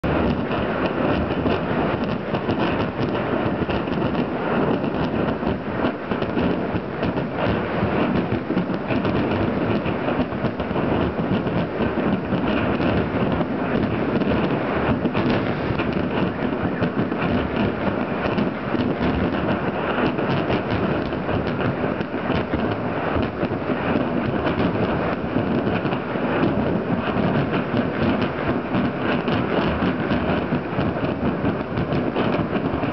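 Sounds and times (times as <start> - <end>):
heavy rumble: 0.0 - 32.9.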